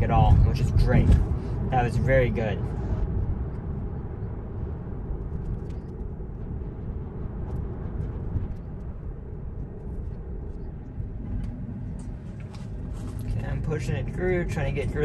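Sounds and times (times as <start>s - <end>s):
road and tyre noise in car cabin: 0.0s - 15.0s.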